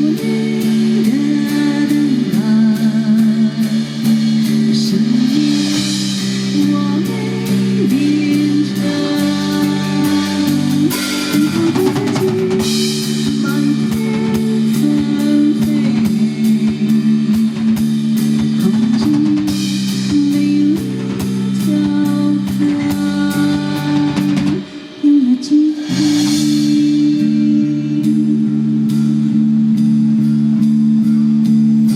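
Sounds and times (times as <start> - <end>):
drum kit: 0.0 - 31.9
guitar: 0.0 - 31.9.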